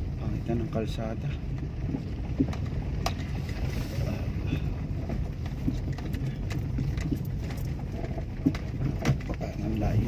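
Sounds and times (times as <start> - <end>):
car engine and tyres rumbling: 0.0 - 10.0
light knocks and crackles: 0.5 - 10.0.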